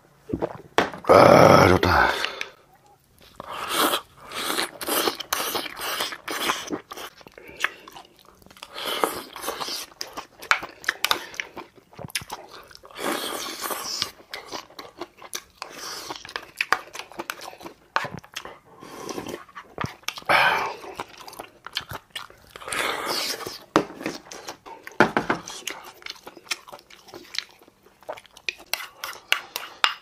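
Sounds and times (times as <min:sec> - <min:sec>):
person chewing and crunching food: 0:00.3 - 0:30.0.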